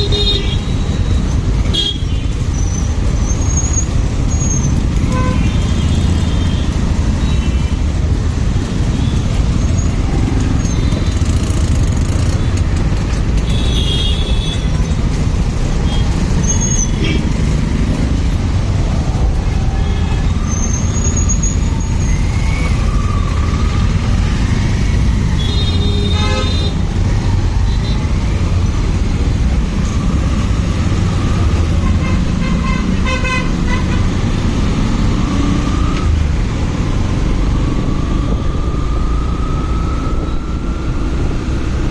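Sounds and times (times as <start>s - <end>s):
road noise: 0.0s - 41.9s.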